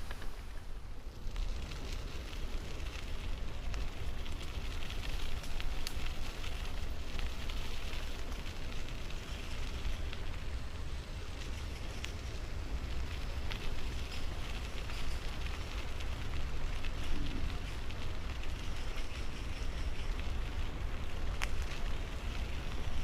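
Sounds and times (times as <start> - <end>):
rain and wet road hiss: 0.0 - 23.0
raindrop ticks: 0.0 - 23.0
wind rumble on microphone: 0.0 - 23.0.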